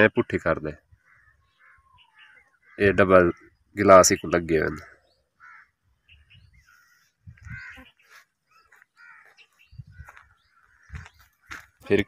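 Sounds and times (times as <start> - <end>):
faint bird calls: 0.8 - 12.0
crows cawing: 0.9 - 3.5, 4.7 - 11.9.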